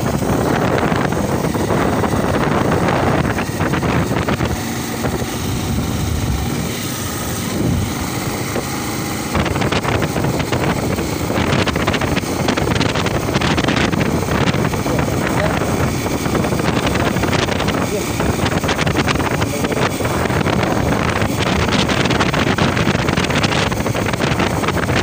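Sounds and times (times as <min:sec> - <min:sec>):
motorcycle engine: 0:00.0 - 0:25.0
road noise: 0:00.0 - 0:25.0
wind buffeting microphone: 0:00.0 - 0:25.0.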